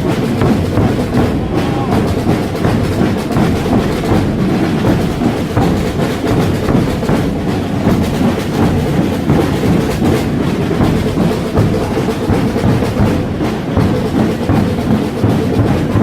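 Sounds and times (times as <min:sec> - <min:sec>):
drums beating together: 0:00.0 - 0:16.0.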